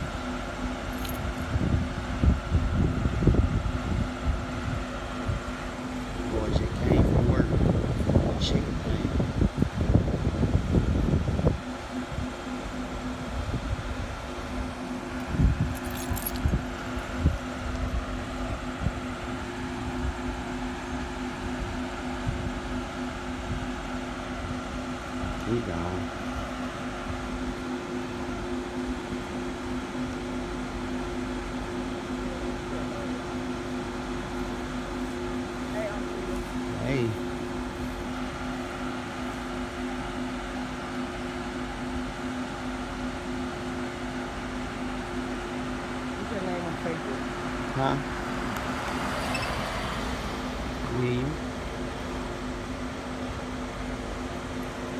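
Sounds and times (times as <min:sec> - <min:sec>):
car engine idling: 0:00.0 - 0:54.9
fan hum: 0:00.0 - 0:54.9.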